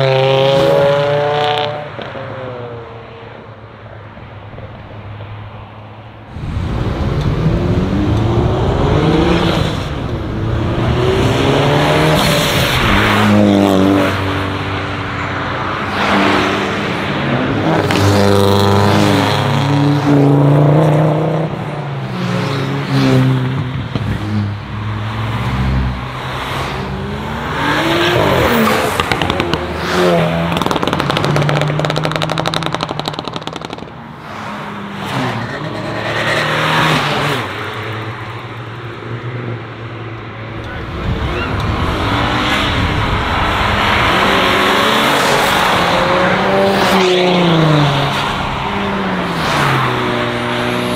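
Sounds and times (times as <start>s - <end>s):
car engines accelerating hard: 6.3s - 50.9s.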